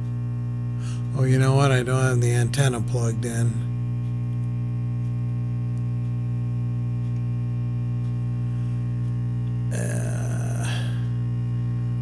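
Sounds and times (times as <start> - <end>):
radio speaker humming: 0.0 - 12.0.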